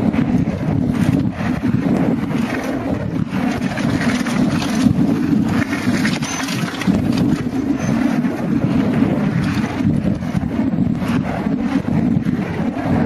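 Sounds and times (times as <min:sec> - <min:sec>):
bike knocks and rattles: 0:00.0 - 0:11.2
wind rushing over microphone: 0:00.0 - 0:13.0.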